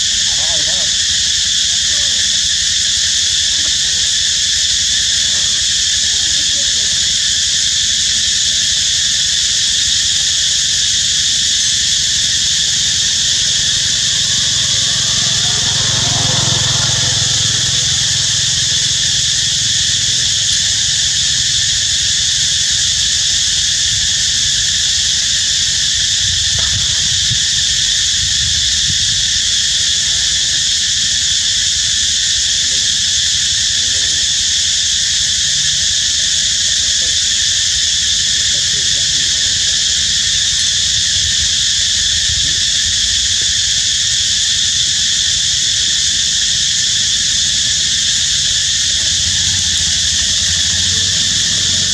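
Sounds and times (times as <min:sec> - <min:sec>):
insect chorus droning: 0:00.0 - 0:51.9.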